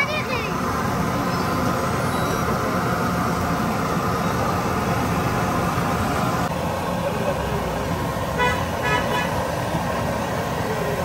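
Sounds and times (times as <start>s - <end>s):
busy street traffic noise: 0.0s - 11.0s.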